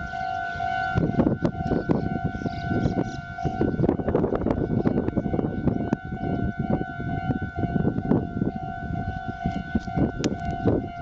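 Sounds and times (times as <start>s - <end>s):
railroad crossing warning bell: 0.0s - 11.0s.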